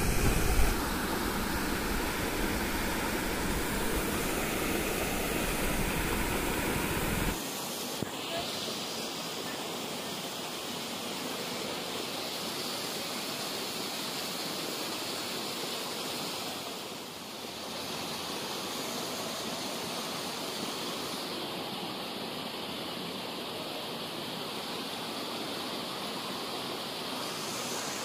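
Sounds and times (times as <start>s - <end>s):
water rushing through canal: 0.0s - 28.0s.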